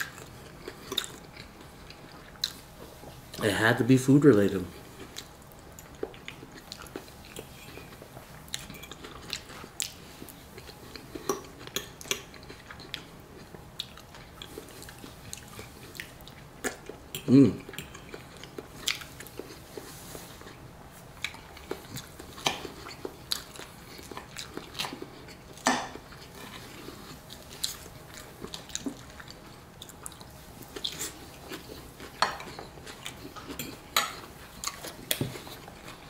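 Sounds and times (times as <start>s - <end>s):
chewing: 0.0s - 3.0s, 4.7s - 36.0s.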